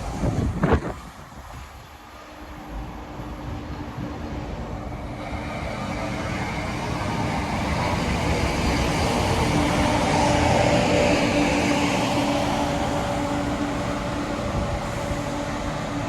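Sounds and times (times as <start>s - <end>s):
train engines humming: 0.0s - 16.0s.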